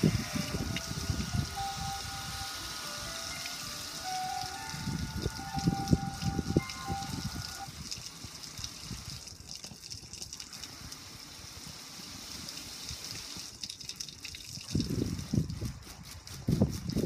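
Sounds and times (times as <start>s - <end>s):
water splashing on metal grill: 0.0s - 17.0s.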